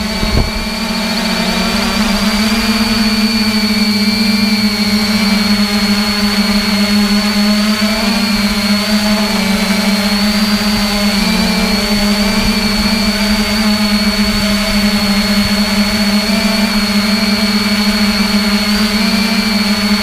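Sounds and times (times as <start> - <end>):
model aircraft motors whining: 0.0 - 20.0.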